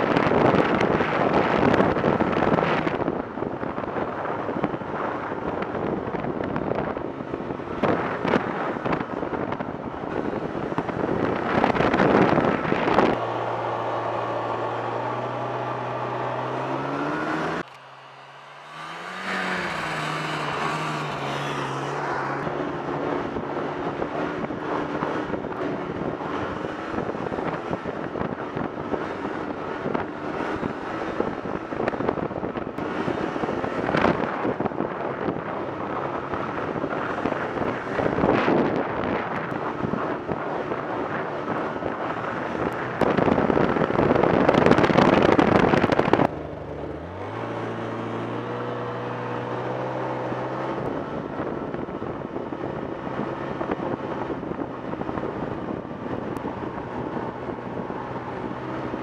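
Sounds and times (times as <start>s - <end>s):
snowmobile riding at speed: 0.0s - 59.0s
engine revving: 6.6s - 59.0s.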